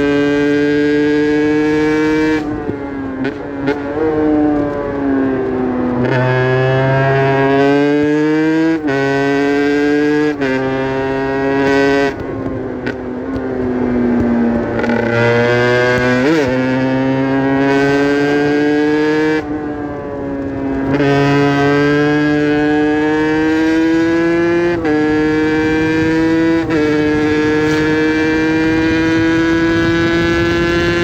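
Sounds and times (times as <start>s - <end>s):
two-stroke motorcycle engine accelerating: 0.0s - 31.0s.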